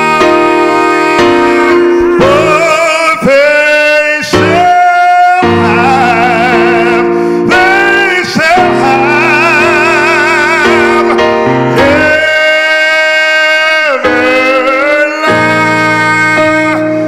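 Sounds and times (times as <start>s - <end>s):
person singing gospel: 0.0s - 17.0s
sustained keyboard chords: 0.0s - 17.0s.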